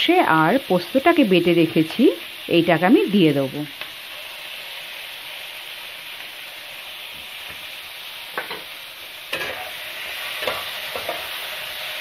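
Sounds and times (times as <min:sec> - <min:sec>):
beans sizzling in oil: 0:00.0 - 0:12.0.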